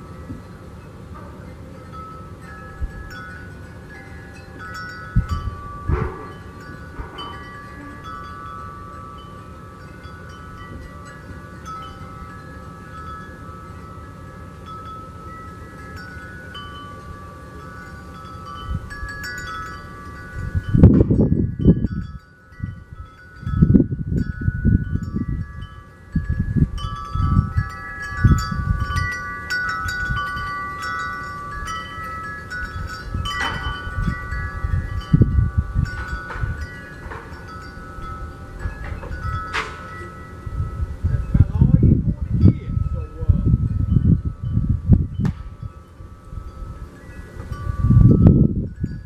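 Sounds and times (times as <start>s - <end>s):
wind chimes ringing: 0.0s - 49.0s.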